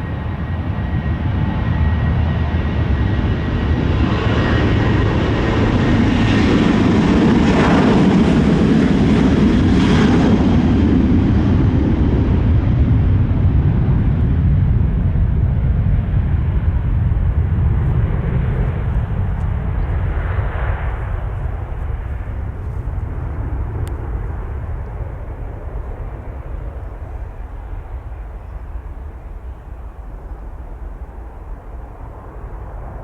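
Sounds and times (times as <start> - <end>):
jet airliner taking off: 0.0 - 33.0.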